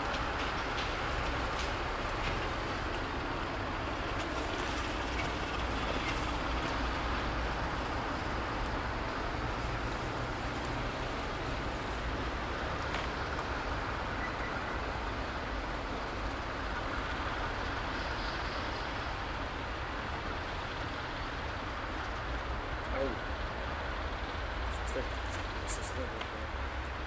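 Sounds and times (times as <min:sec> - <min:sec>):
train rumbling on tracks: 0:00.0 - 0:27.0.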